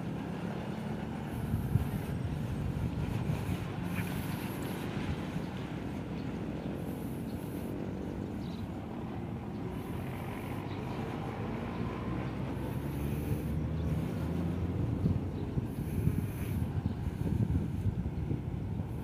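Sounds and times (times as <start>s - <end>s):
low road rumble: 0.0s - 19.0s
wind buffeting microphone: 0.1s - 19.0s.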